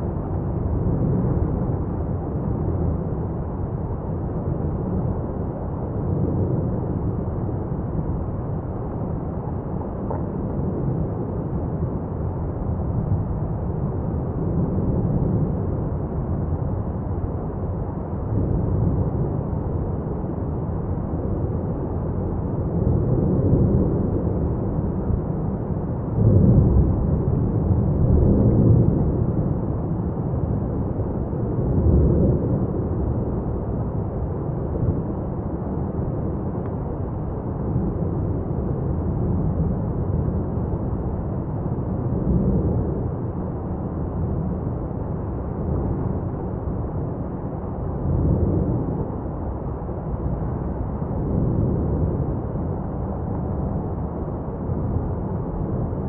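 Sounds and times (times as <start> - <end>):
lava fountain deep roar: 0.0 - 56.0.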